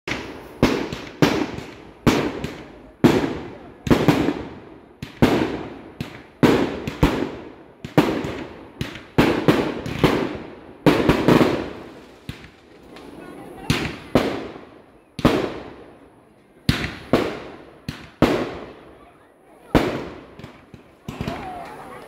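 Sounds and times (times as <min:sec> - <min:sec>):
fireworks bangs with echo: 0:00.1 - 0:16.0, 0:16.6 - 0:22.0.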